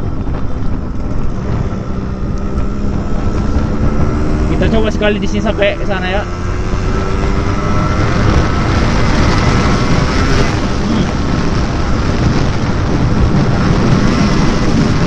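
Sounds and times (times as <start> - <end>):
two-stroke engine accelerating: 0.1 - 15.0.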